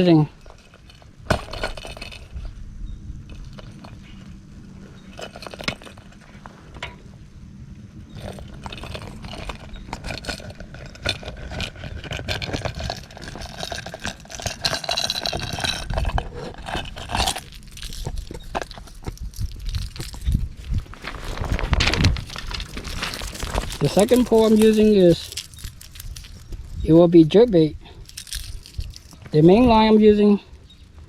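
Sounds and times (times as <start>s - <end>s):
scraping clinking and crunching: 0.0s - 2.6s, 3.3s - 7.1s, 8.1s - 30.9s.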